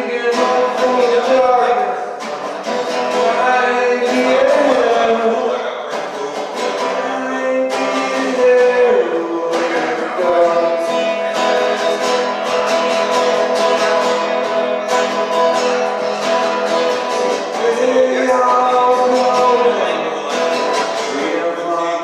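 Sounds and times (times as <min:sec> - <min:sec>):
acoustic guitar strumming: 0:00.0 - 0:22.0
man singing: 0:00.0 - 0:22.0.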